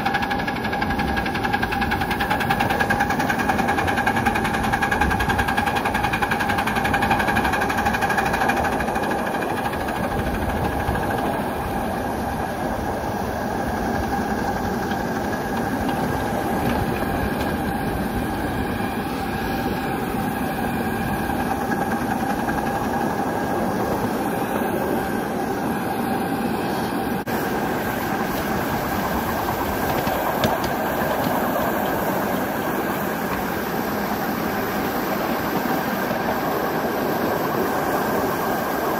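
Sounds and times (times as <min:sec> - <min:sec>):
steam locomotive wheels rumbling: 0:00.0 - 0:38.9.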